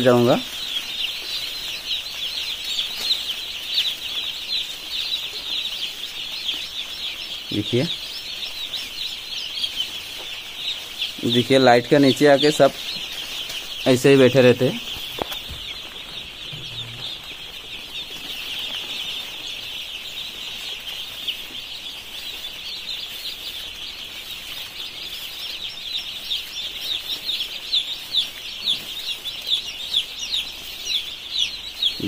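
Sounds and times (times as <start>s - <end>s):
chicks peeping: 0.0s - 32.0s.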